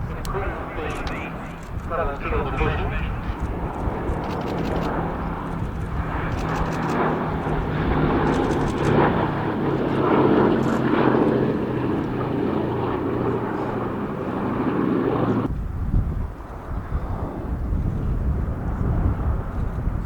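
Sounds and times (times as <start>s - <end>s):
piston aircraft engines droning: 0.0s - 20.0s.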